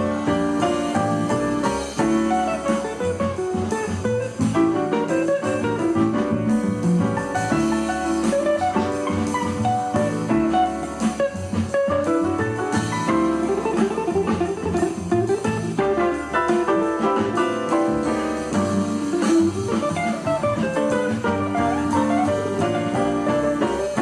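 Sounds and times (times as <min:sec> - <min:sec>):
guitar instrumental music: 0:00.0 - 0:24.0.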